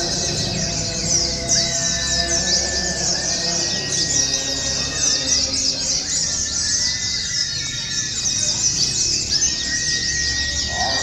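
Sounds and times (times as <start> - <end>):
bird whistled notes: 0.0 - 11.0
high bird twittering: 0.0 - 11.0.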